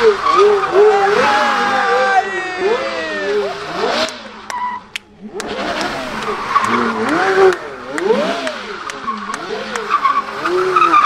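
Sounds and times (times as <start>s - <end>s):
car engine revving: 0.0s - 11.0s
spinning tyres rushing: 0.0s - 11.0s.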